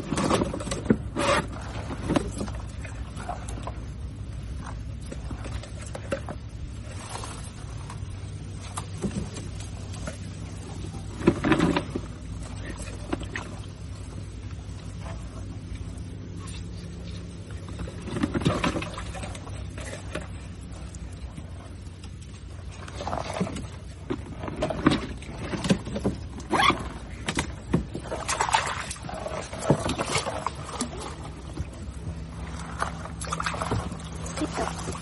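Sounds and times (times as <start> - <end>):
low hum: 0.0 - 35.0
water splashing and sloshing: 0.0 - 35.0.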